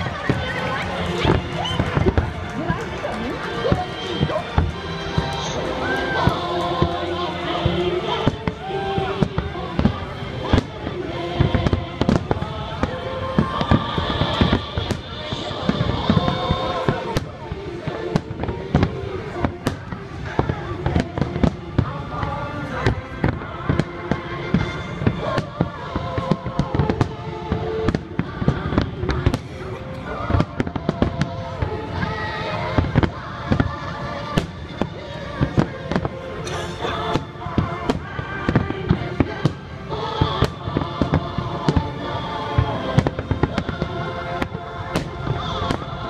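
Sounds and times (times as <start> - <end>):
fireworks bangs and crackles: 0.0 - 46.0
music playing: 0.0 - 46.0.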